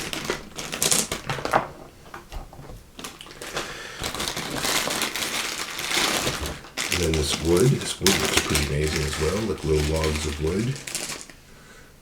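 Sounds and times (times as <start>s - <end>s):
plastic bag rustling: 0.0s - 11.8s.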